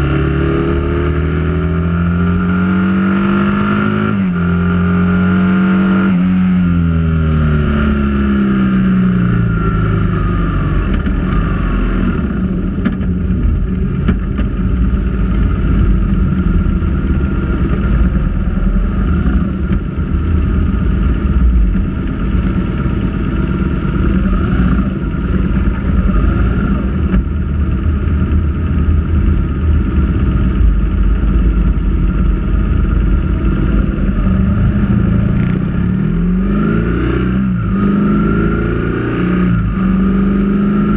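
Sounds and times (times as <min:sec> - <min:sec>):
motorcycle engine: 0:00.0 - 0:40.9
wind rumble on microphone: 0:00.0 - 0:40.9.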